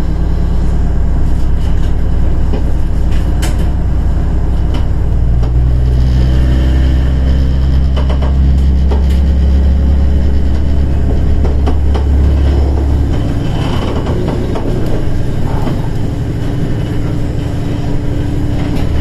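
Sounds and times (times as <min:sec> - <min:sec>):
diesel engine drone: 0:00.0 - 0:19.0
train wheels rumbling on track: 0:00.0 - 0:19.0.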